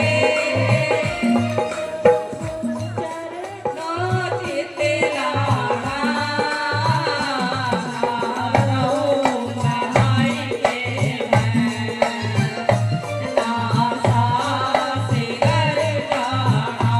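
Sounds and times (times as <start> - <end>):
devotional singing voice: 0.0 - 16.9
tabla drums playing rhythm: 0.0 - 16.9.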